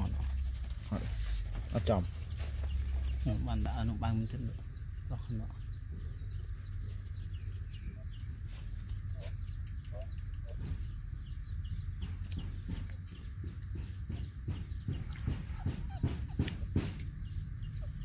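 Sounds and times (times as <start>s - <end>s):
chickens clucking: 0.1s - 18.0s.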